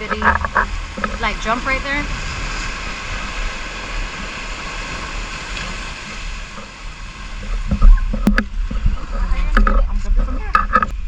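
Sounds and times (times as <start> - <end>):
surf: 0.0 - 11.0
wind buffeting microphone: 0.0 - 11.0.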